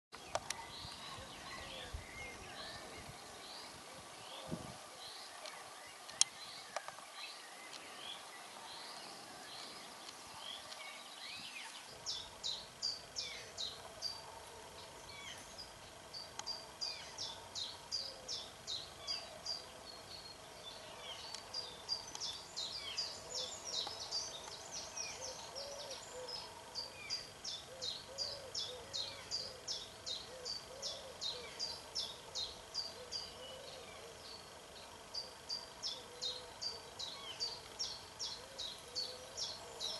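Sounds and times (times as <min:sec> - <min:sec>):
soft bird calls: 0:00.2 - 0:39.9.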